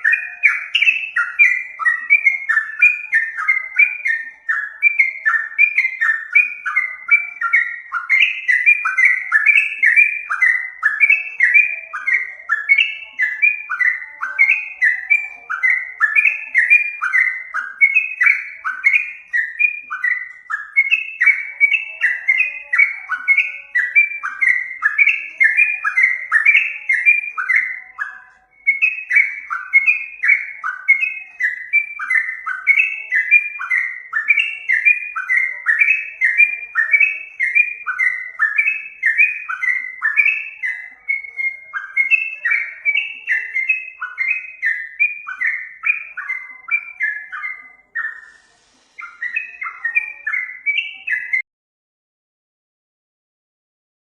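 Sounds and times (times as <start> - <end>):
bulbul singing: 0.0 - 51.4.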